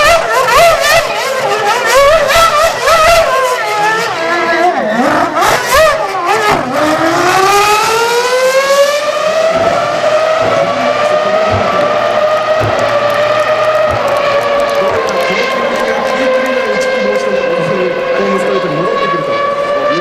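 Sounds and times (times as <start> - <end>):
racing car engine revving: 0.0 - 20.0.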